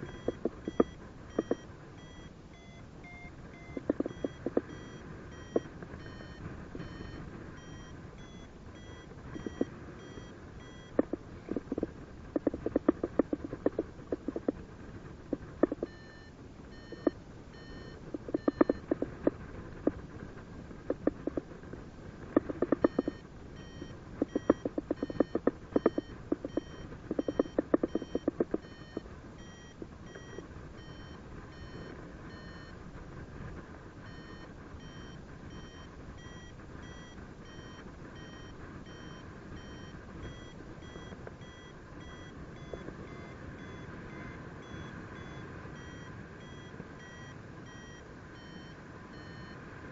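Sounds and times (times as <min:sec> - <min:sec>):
variometer beeping: 0:00.0 - 0:14.6, 0:15.3 - 0:20.1, 0:20.9 - 0:21.5, 0:22.4 - 0:32.8, 0:34.0 - 0:49.6.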